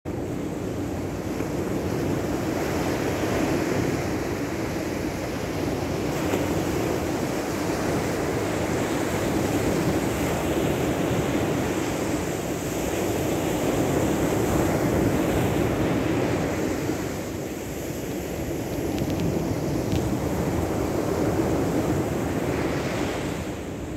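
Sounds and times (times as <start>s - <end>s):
surf washing onto beach: 0.1s - 23.9s
wind on microphone: 0.1s - 23.9s.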